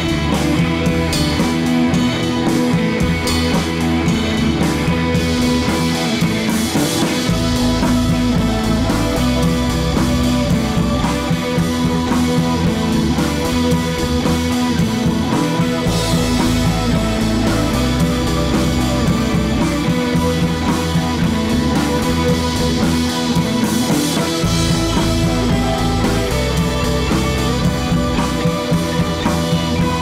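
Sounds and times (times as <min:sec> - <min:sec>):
deep bass: 0:00.0 - 0:23.6, 0:24.2 - 0:30.0
drums: 0:00.0 - 0:30.0
guitar: 0:00.0 - 0:30.0.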